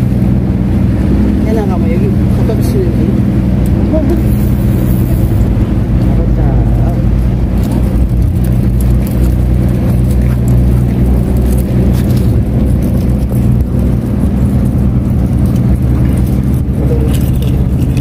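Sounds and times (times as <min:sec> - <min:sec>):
engine droning: 0:00.0 - 0:18.0.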